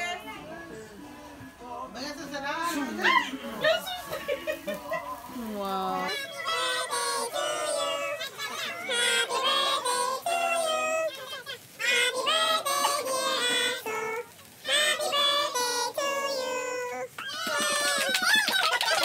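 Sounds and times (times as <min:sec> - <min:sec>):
group singing a celebration song: 0:00.0 - 0:19.0.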